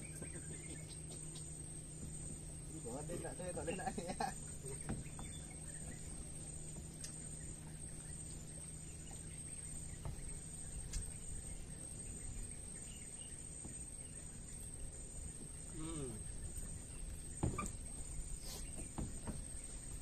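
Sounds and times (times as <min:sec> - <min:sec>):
high insect-like chirp: 0:00.0 - 0:20.0
low steady hum: 0:00.0 - 0:20.0.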